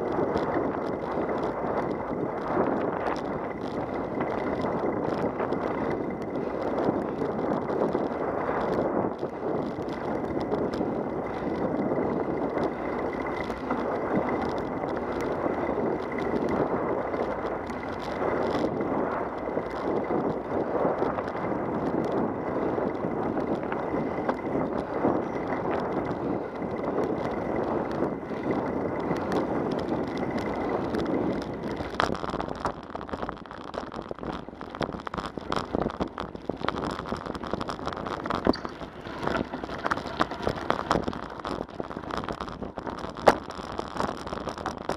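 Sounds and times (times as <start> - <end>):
bicycle tyres rolling on pavement: 0.0 - 44.9
tyres crunching on gravel: 0.0 - 44.9.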